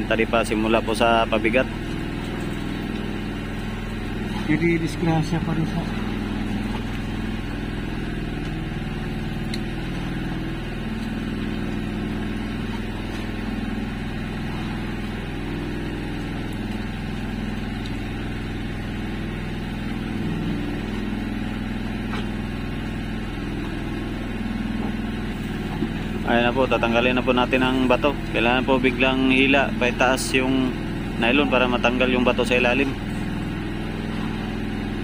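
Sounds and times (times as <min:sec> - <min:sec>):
small engine idling: 0:00.0 - 0:35.0.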